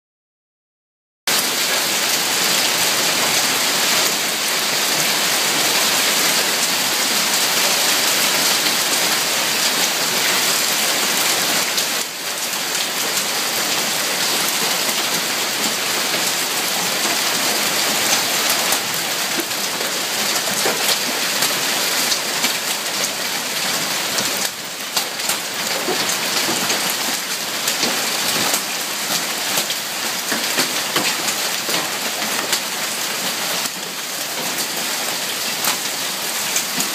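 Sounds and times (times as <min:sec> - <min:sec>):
hail falling on ground and cars: 0:01.3 - 0:36.9.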